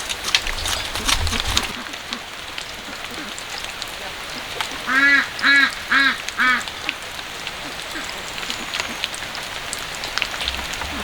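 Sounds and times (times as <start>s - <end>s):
fowl calls: 0.0s - 11.0s.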